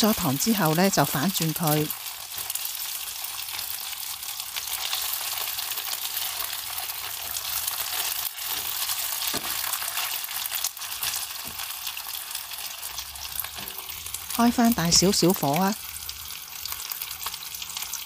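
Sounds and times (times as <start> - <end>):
chicken wings sizzling in oil: 0.0 - 18.0.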